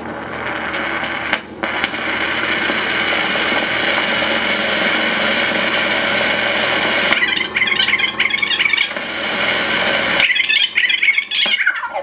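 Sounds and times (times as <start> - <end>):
wire recorder mechanical whir: 0.0 - 12.0.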